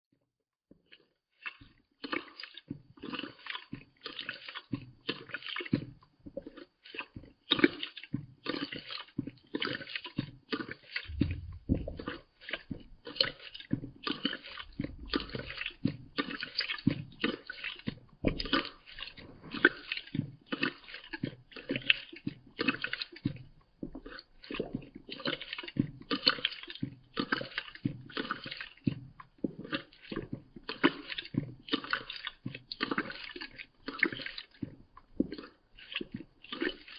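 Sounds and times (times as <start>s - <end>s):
cat lapping water slowed: 0.7s - 36.9s.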